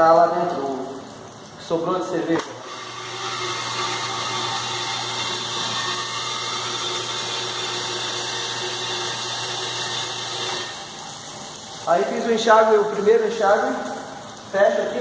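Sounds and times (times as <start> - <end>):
water jetting inside metal keg: 0.0 - 15.0
electric pump humming: 2.0 - 15.0.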